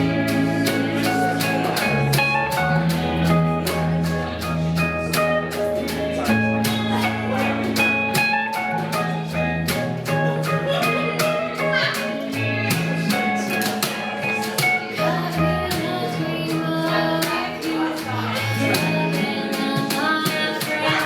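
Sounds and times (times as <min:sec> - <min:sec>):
guitar chords: 0:00.0 - 0:21.0
walking bass line: 0:00.0 - 0:21.0.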